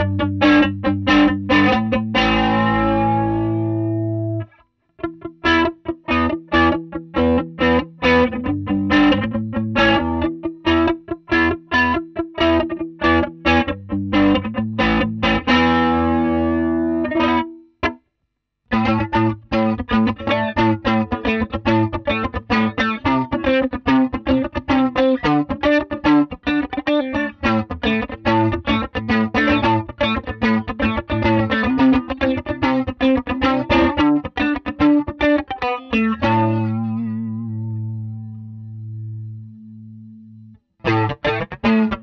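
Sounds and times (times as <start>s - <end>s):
electric guitar with chorus effect: 0.0s - 18.0s, 18.7s - 42.0s.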